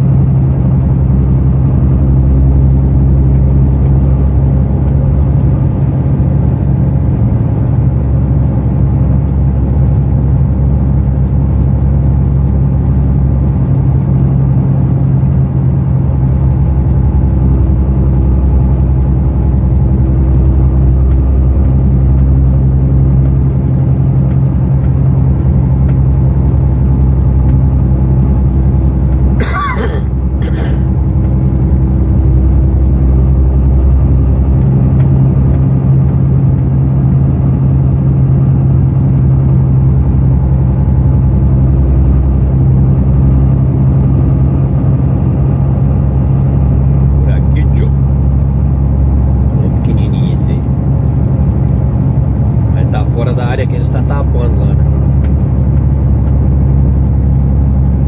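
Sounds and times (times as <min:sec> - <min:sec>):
road noise: 0:00.0 - 0:58.0
truck diesel engine drone: 0:00.0 - 0:58.0.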